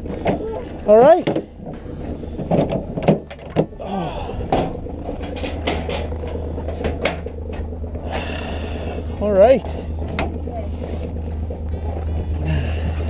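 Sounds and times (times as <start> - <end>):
sharp knocks and clanks: 0.0 - 3.8, 4.5 - 13.0
farm vehicle engine idling: 0.0 - 13.0.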